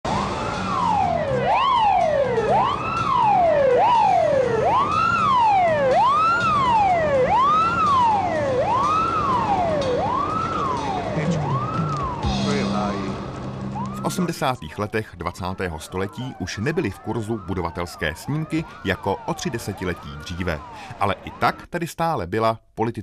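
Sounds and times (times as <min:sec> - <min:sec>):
emergency vehicle siren wailing: 0:00.0 - 0:21.7.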